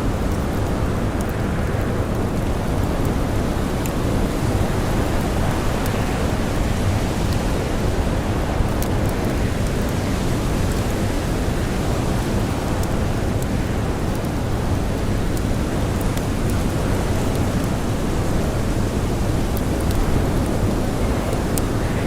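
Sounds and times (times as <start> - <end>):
blizzard wind: 0.0 - 22.0
campfire crackling: 0.0 - 22.0.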